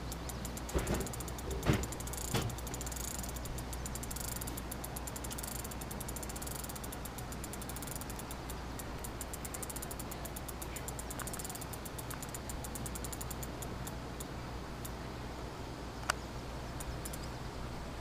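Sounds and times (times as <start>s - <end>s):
fishing reel clicking: 0.0s - 15.0s, 16.8s - 17.3s.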